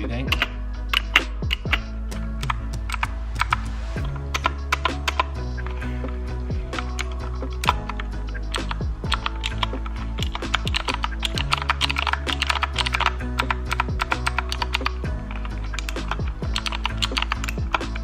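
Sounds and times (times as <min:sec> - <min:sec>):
background music: 0:00.0 - 0:18.0
mechanical keyboard typing: 0:00.3 - 0:05.8, 0:06.8 - 0:18.0.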